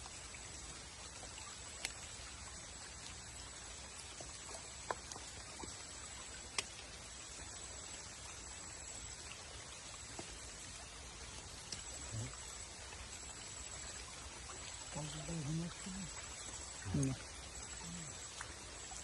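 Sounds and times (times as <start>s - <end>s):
low hiss: 0.0s - 19.0s.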